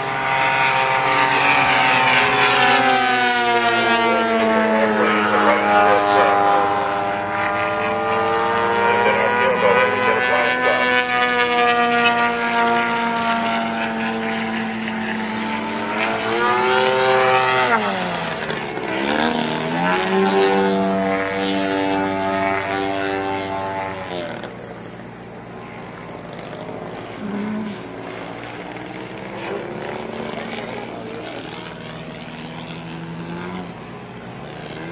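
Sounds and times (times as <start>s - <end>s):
model airplane engine buzzing: 0.0s - 34.9s.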